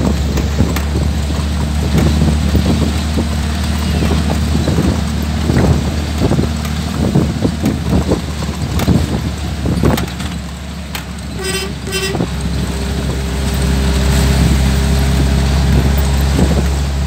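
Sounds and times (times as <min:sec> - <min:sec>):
engine and road hum: 0:00.0 - 0:17.0
knocks and rattles: 0:00.0 - 0:17.0.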